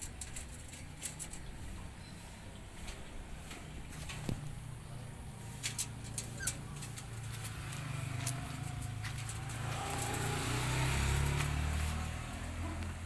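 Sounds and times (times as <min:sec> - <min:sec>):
passing vehicle engine rumble: 0:00.0 - 0:13.0.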